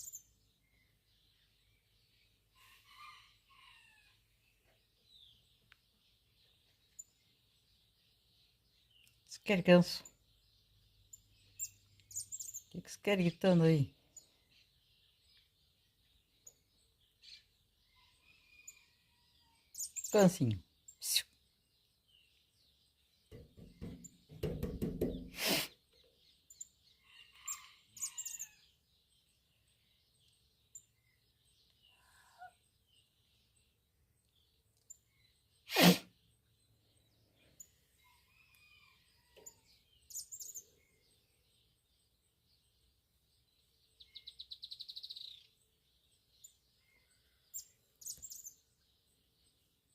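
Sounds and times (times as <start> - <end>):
faint distant bird chirps: 0.0 - 49.9.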